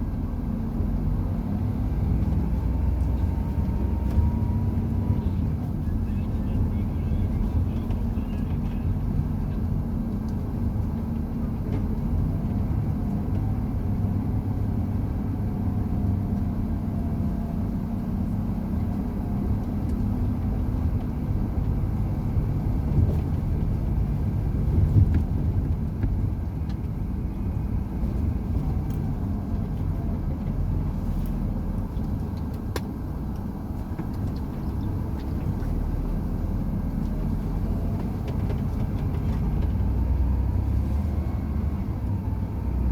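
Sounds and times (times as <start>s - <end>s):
truck engine running: 0.0s - 42.9s
tyre and road noise: 0.0s - 42.9s.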